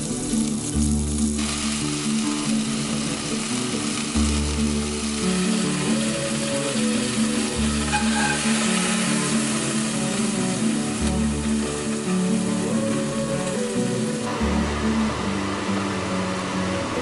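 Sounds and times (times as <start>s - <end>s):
acoustic background music: 0.0s - 17.0s
beef sizzling in hot oil: 0.0s - 17.0s.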